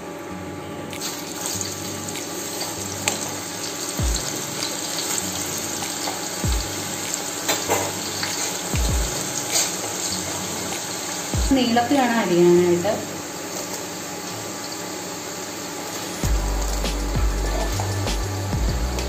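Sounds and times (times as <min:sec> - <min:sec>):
food deep-frying in oil: 0:00.9 - 0:18.0.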